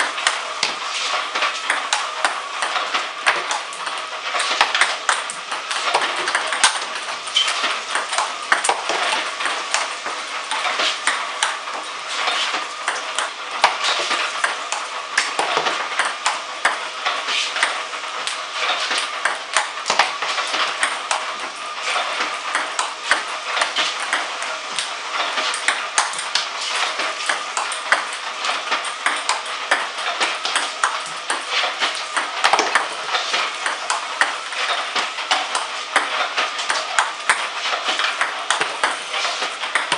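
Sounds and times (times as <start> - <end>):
table tennis balls clicking: 1.7 - 9.9, 10.5 - 11.6, 12.3 - 16.8, 17.6 - 21.3, 22.5 - 39.9.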